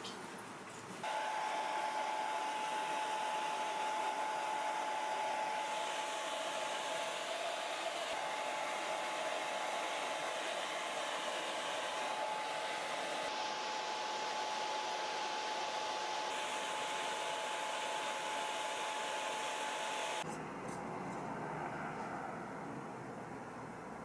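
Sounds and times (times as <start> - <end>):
hair dryer running: 1.0 - 20.3.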